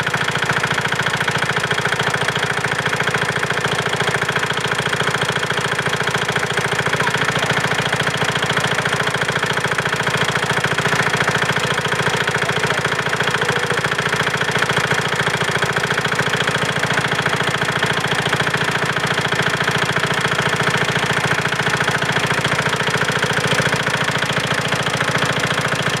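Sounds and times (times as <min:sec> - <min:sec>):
diesel engine knocking: 0:00.0 - 0:26.0.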